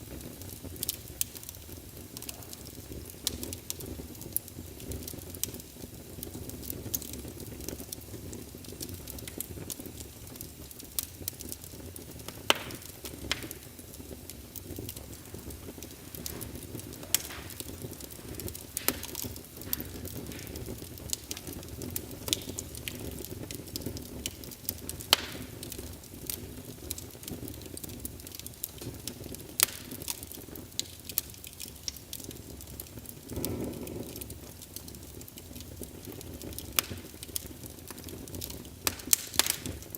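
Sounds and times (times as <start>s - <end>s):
fire crackling and popping: 0.0s - 39.9s
flames rumbling: 0.0s - 39.9s.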